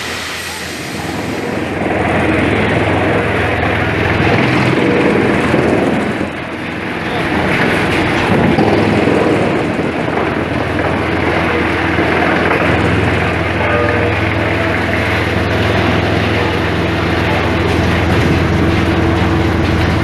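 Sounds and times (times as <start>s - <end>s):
wood-processing machinery running: 0.0s - 20.0s.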